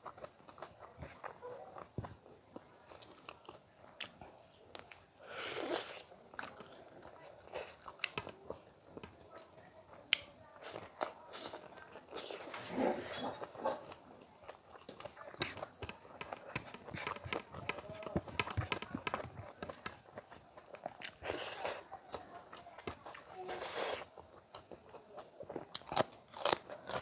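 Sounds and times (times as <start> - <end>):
person chewing food: 0.0 - 9.4, 10.1 - 27.0.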